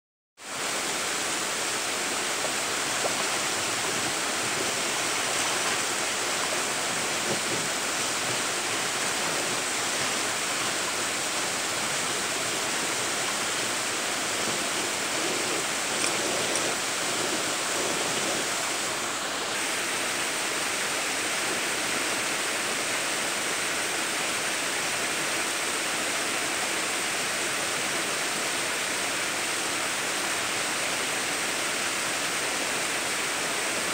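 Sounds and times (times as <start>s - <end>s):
water rushing over rocks: 0.4s - 33.9s.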